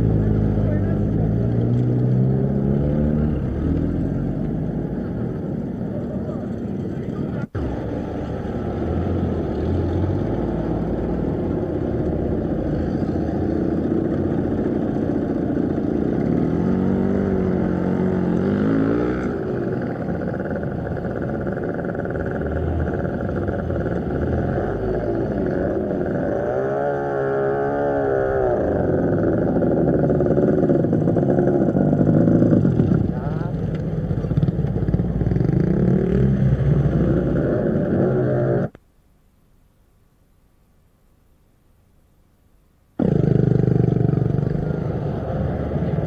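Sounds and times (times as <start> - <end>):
engines revving and passing: 0.0 - 38.8, 43.0 - 46.0
traffic engine rumble: 0.0 - 38.8, 43.0 - 46.0.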